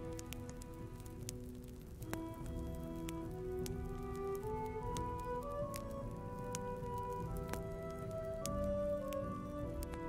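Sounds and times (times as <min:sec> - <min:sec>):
firewood crackling in a stove: 0:00.0 - 0:10.0
soft background music: 0:00.0 - 0:10.0.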